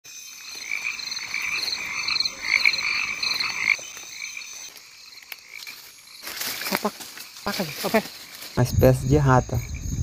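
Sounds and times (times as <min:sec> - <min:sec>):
frogs trilling: 0:00.1 - 0:10.0.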